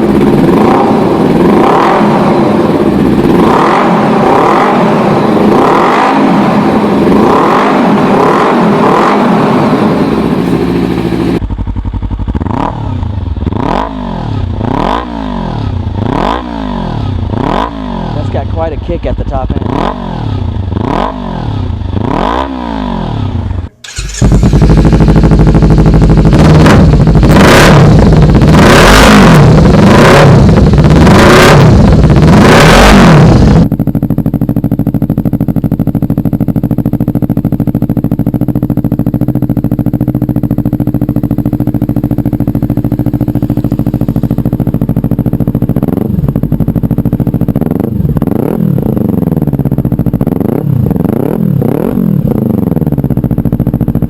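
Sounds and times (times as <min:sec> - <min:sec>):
motorcycle idling: 0:00.0 - 0:22.1, 0:22.8 - 0:54.0
motorcycle engine revving: 0:00.0 - 0:54.0.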